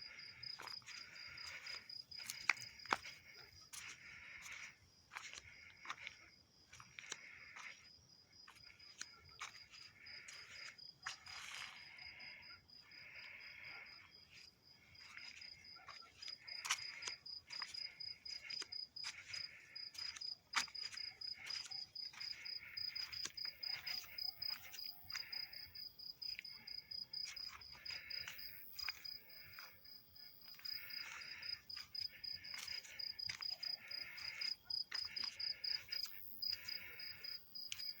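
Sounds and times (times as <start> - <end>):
cricket trilling: 0.0 - 38.0
low rasping insect call: 0.0 - 38.0.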